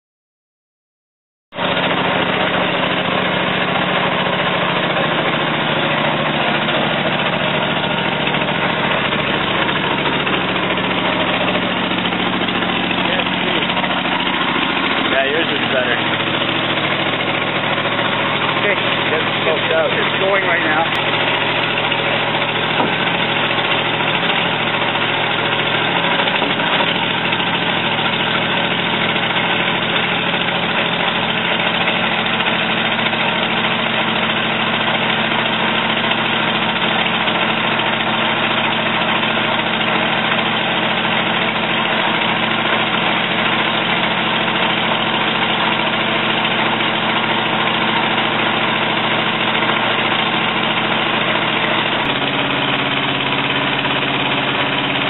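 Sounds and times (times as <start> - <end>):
small engine running: 1.6 - 55.0.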